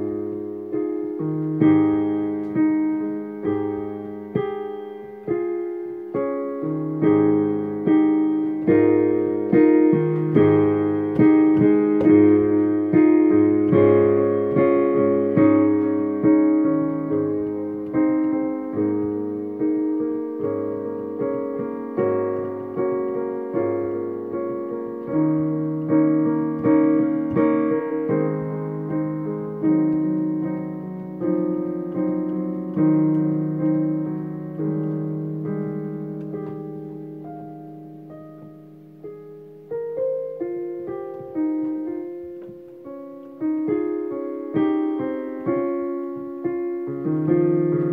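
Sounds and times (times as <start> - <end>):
slow gentle piano chords: 0.0 - 47.9.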